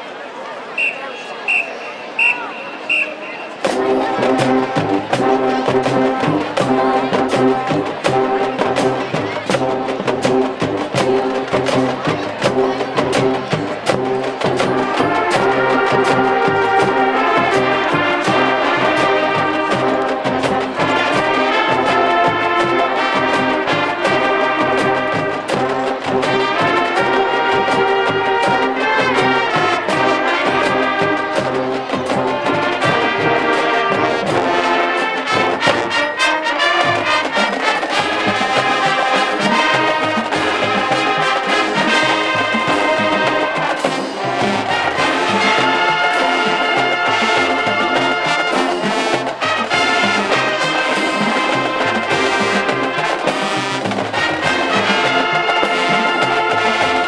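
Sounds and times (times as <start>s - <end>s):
brass section chords: 1.5s - 57.0s
drumline beat: 2.2s - 57.0s.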